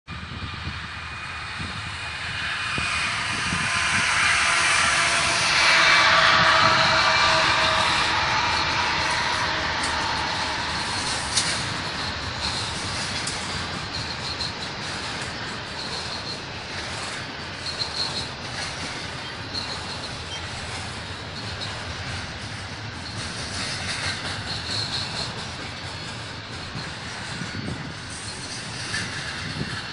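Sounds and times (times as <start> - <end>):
diesel locomotive engines rumbling: 0.1 - 29.9
high-pitched wheel squeals: 1.6 - 29.9.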